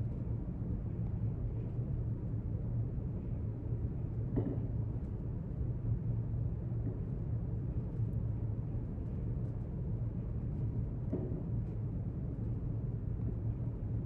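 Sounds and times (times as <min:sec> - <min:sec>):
room hum and rumble: 0:00.0 - 0:14.0.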